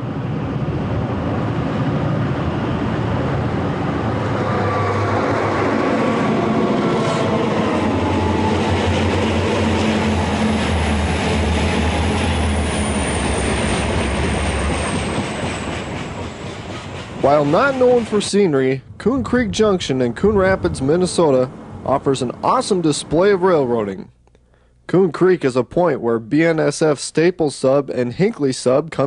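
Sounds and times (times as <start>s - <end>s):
train cars rolling on rails: 0.0s - 23.7s
diesel locomotive engine drone: 0.0s - 24.2s.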